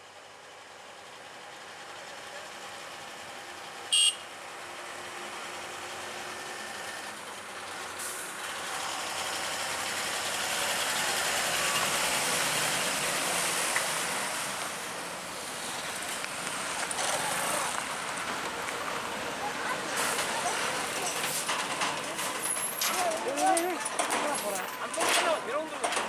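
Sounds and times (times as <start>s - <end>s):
truck engine straining: 1.5s - 26.0s.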